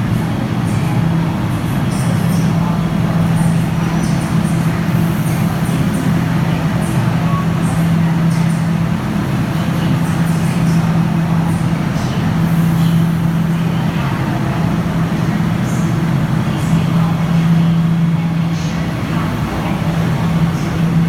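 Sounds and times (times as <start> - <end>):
metro train rumble: 0.0 - 21.0.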